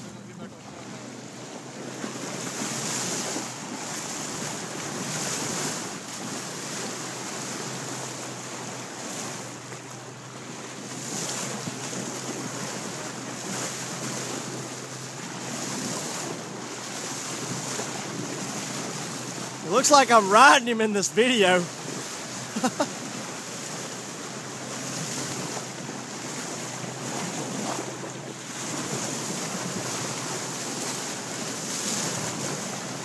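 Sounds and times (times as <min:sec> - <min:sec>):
water rushing past boat bow: 0:00.0 - 0:33.0.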